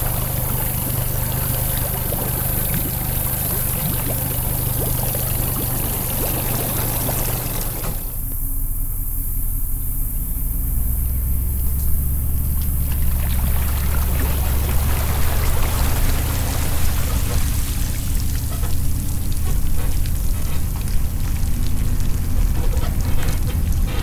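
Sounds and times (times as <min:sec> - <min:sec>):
water pouring off boat hull: 0:00.0 - 0:08.3, 0:11.3 - 0:24.0
truck engine humming: 0:00.0 - 0:24.0.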